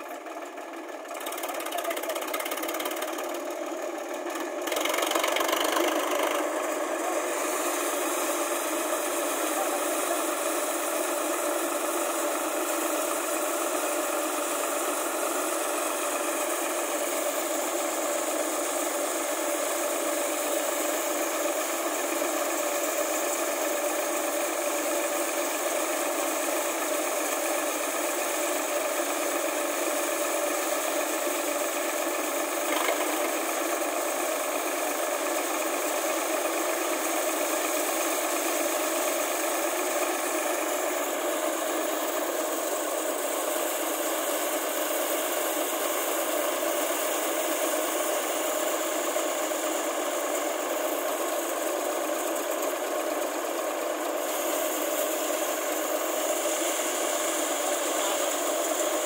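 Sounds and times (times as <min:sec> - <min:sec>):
tractor engine driving thresher: 0:00.0 - 0:59.0.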